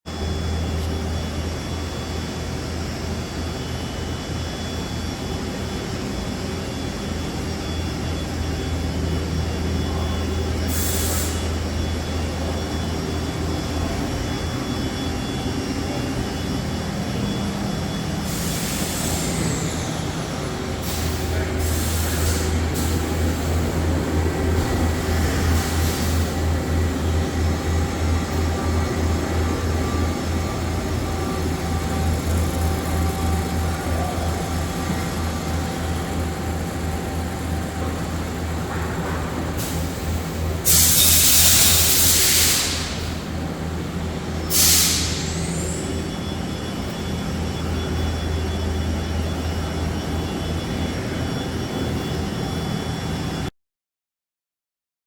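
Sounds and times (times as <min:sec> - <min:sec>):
lathe machine hum with whine: 0:00.1 - 0:53.5.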